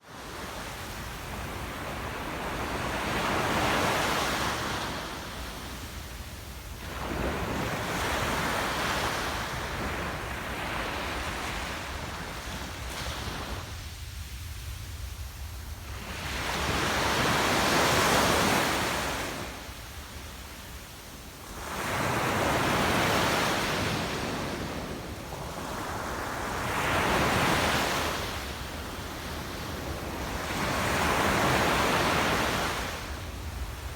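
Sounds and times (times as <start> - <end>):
waves crashing on beach: 0.1 - 33.9.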